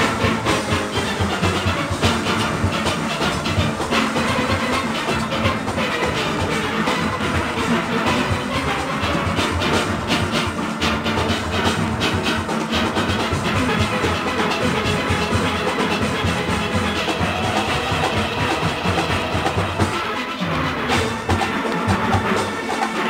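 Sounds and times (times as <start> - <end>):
drums and percussion: 0.0 - 23.0
steelpans playing: 0.0 - 23.0.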